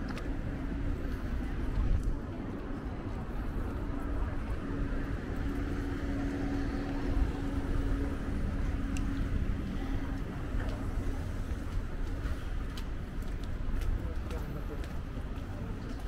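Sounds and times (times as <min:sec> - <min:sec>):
traffic rumble: 0:00.0 - 0:16.0
vehicle engine hum: 0:00.0 - 0:16.0.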